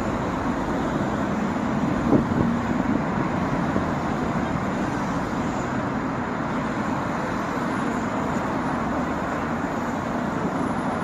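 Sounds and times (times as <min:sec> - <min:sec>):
motorway traffic noise: 0:00.0 - 0:11.0.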